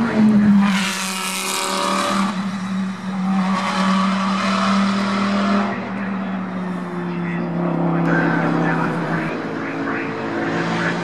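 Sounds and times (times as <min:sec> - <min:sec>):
race car engines running hard: 0:00.0 - 0:11.0.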